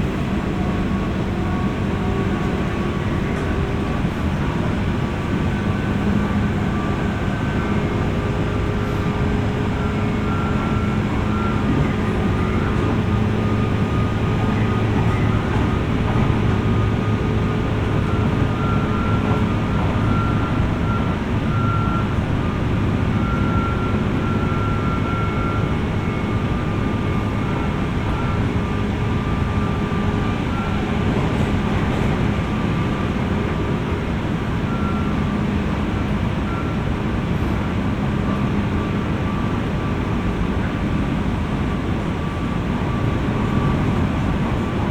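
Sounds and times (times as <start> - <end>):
traction motor hum and whine: 0.0 - 44.9
train wheels rumbling on rails: 0.0 - 44.9.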